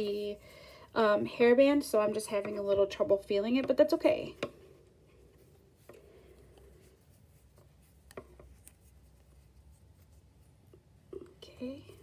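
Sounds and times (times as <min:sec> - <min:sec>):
crochet hook and yarn rubbing: 0:00.0 - 0:12.0.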